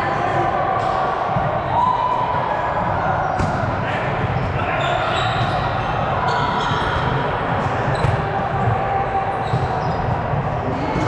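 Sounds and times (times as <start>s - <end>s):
din of volleyball play: 0.0s - 11.0s.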